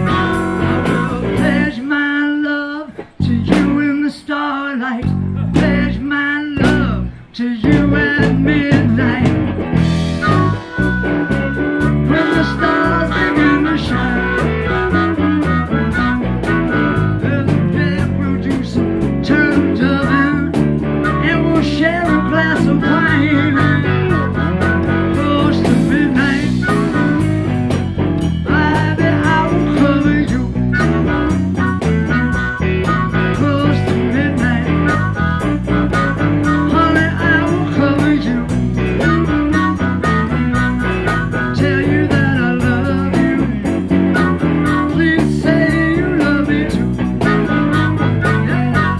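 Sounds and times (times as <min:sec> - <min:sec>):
drum kit: 0:00.0 - 0:01.9, 0:02.9 - 0:04.0, 0:05.0 - 0:48.9
amplified harmonica wailing: 0:00.0 - 0:02.0, 0:08.2 - 0:48.9
electric guitars: 0:00.0 - 0:48.9.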